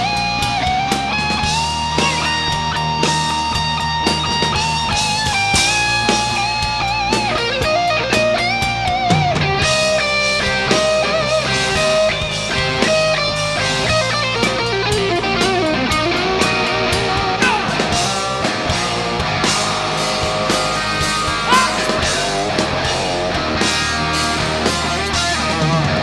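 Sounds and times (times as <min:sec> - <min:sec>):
bending lead guitar line: 0:00.0 - 0:26.0
hard rock band playing live: 0:00.0 - 0:26.0.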